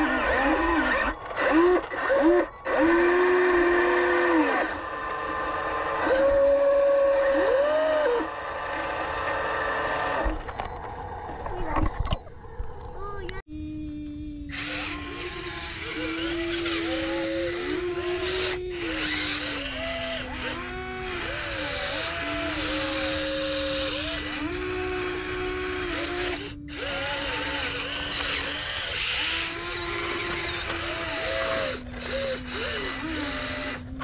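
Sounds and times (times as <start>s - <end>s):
electric motors whining: 0.0s - 34.0s.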